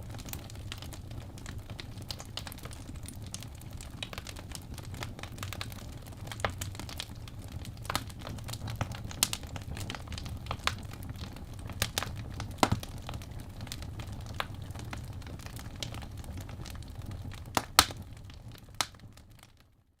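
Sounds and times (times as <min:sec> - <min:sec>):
wood fire crackling: 0:00.0 - 0:19.8.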